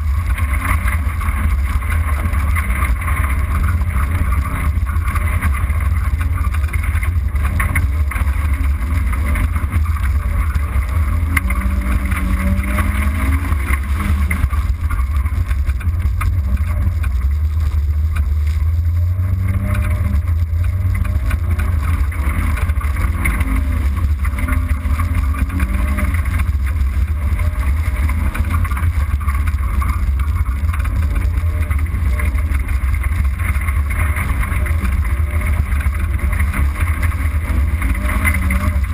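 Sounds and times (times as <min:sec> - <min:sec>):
rally car engine and road noise: 0:00.0 - 0:38.9.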